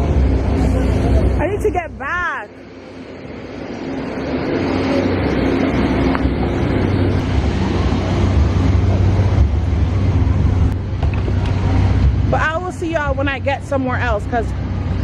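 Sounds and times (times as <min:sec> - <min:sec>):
large vehicle engine rumbling: 0:00.0 - 0:15.0
street traffic: 0:00.0 - 0:15.0.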